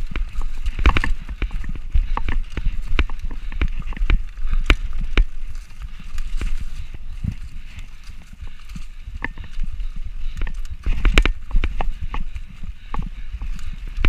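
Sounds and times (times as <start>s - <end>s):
bike clattering over rocks: 0.0s - 14.0s.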